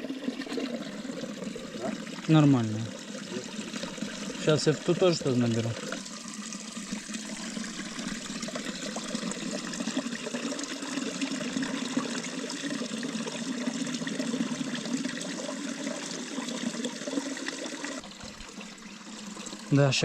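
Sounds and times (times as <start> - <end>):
stream water running and splashing: 0.0 - 20.0.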